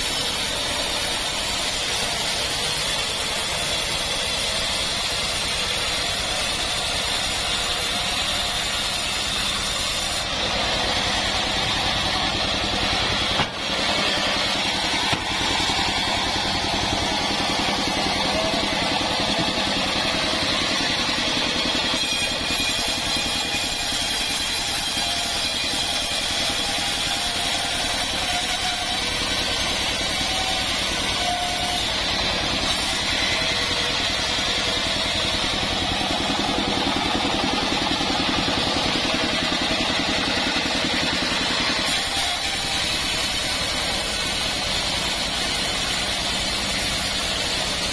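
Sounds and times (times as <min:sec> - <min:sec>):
band sawmill cutting a log: 0:00.0 - 0:47.9.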